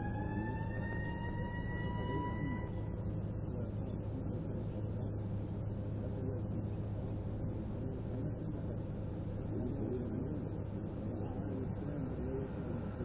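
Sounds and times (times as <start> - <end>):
faint indistinct voices: 0.0 - 13.0
patrol car engine humming: 0.0 - 13.0.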